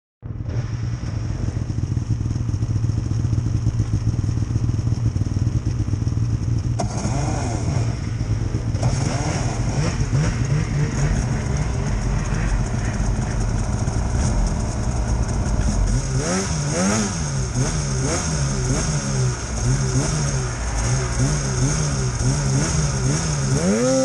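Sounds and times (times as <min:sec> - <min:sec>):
snowmobile engines idling: 0:00.4 - 0:24.0.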